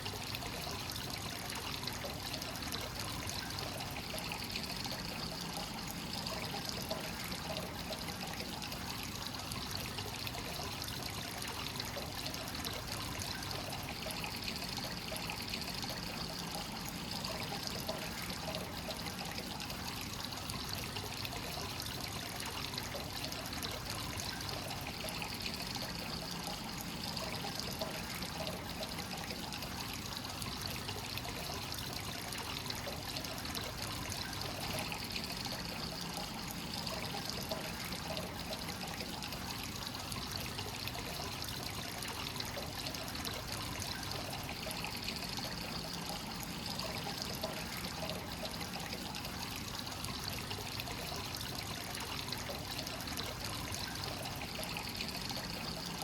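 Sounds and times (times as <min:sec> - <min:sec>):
hot spring water pouring into bath: 0:00.0 - 0:56.0.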